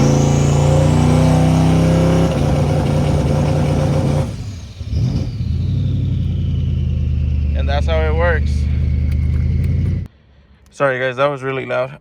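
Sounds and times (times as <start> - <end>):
car engine idling: 0.0 - 10.1
car engine on rev limiter: 0.0 - 10.1.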